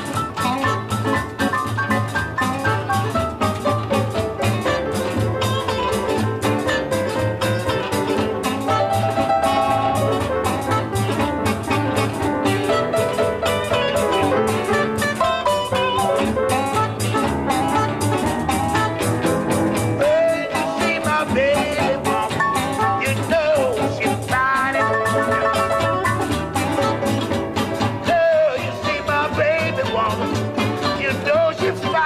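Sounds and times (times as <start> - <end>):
blues band playing: 0.0 - 32.0
guitar bending notes: 0.0 - 32.0
steady drum beat: 0.0 - 32.0.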